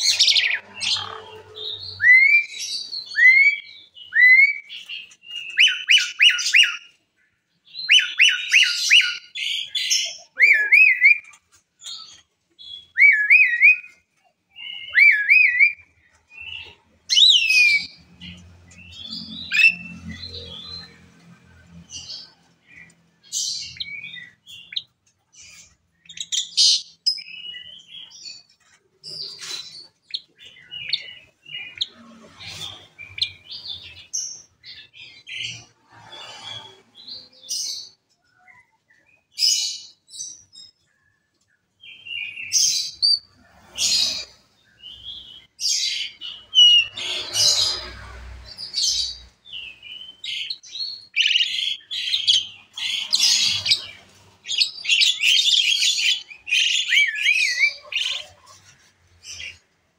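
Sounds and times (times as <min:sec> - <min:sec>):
starling singing: 0:00.0 - 0:07.0, 0:07.6 - 0:40.7, 0:41.8 - 0:59.7.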